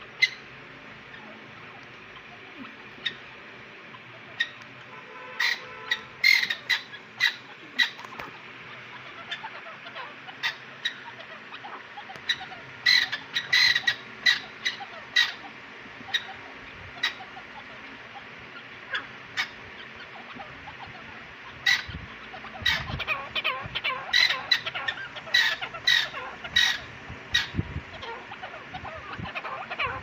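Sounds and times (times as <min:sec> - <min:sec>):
francolins calling: 0:00.0 - 0:30.0.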